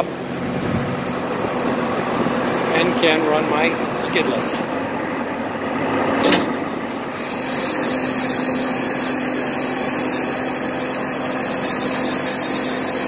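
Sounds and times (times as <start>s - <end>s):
hydraulic hiss with low hum: 0.0s - 4.8s, 6.9s - 13.0s
engine running: 0.0s - 13.0s.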